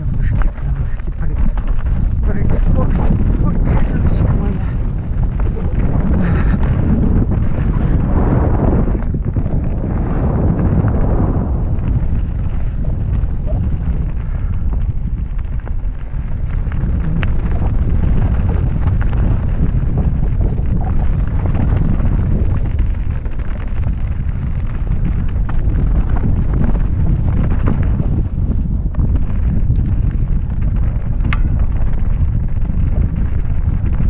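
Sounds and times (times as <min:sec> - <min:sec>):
tyres crunching on loose stones: 0:00.0 - 0:34.0
wind buffeting microphone: 0:00.0 - 0:34.0.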